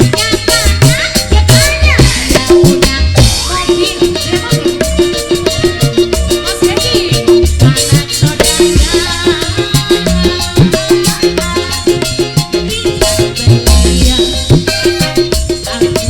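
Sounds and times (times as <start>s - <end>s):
busy drum rhythm: 0.0s - 16.0s
live band music: 0.0s - 16.0s.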